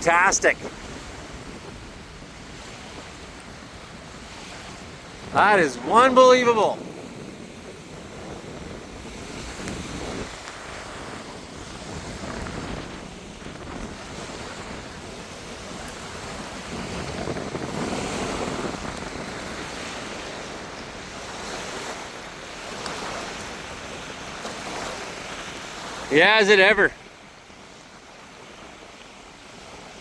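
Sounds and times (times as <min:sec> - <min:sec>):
gusty wind on microphone: 0:00.6 - 0:26.0.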